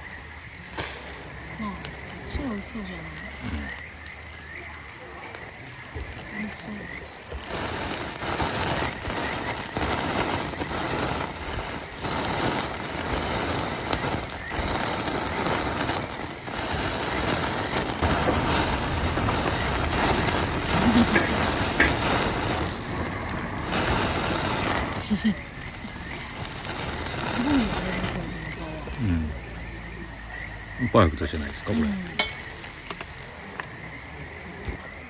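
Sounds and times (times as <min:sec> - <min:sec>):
meat sizzling on a grill: 0:00.0 - 0:33.9.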